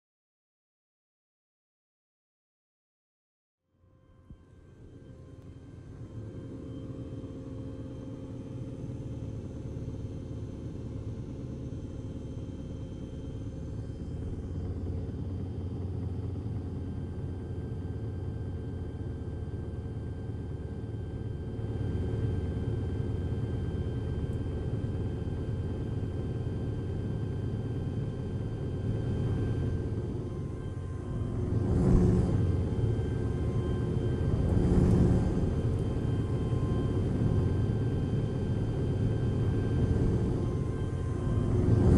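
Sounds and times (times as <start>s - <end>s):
dark ambient drone: 4.0s - 41.9s.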